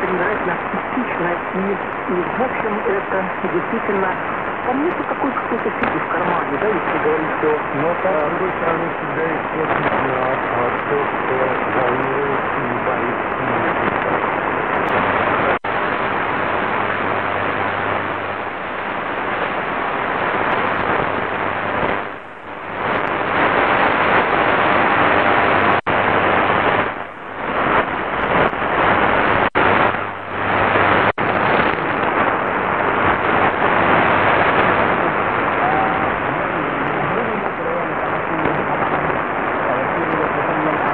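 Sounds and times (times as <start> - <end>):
radio static: 0.0 - 40.9.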